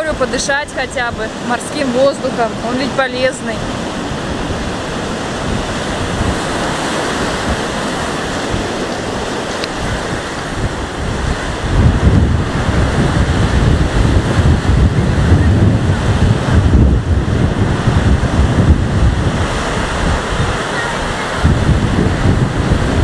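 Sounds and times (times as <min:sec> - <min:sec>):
surf breaking on shore: 0:00.0 - 0:23.0
wind buffeting microphone: 0:00.0 - 0:23.0.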